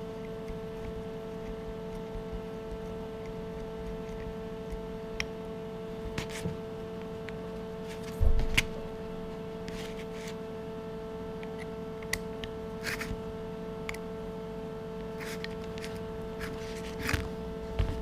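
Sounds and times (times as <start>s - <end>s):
steady hum of fixed tones: 0.0s - 18.0s.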